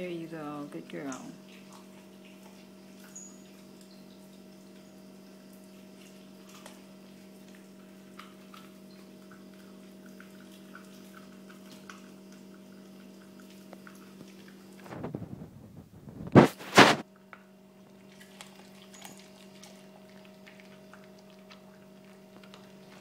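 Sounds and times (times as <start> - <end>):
steady low hum: 0.0 - 23.0
dogs chewing and licking: 0.9 - 15.0, 16.4 - 23.0.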